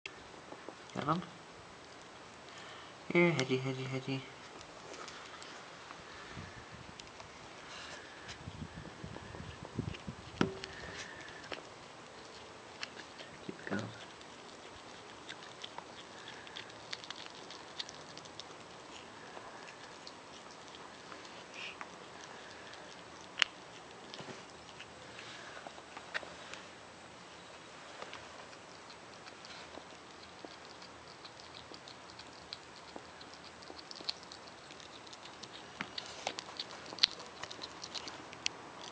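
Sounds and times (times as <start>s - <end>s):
hedgehog chewing food: 4.3s - 26.8s, 27.4s - 38.9s.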